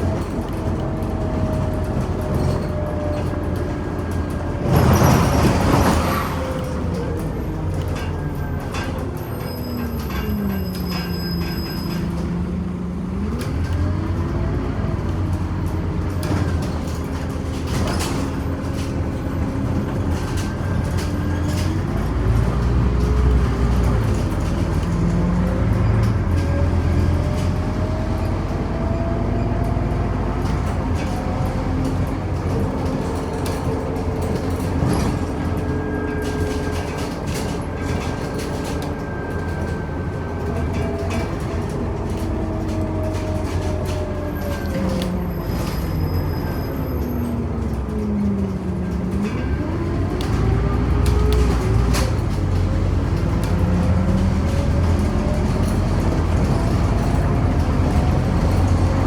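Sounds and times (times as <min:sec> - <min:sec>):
bus engine and drivetrain whine: 0:00.0 - 0:59.0.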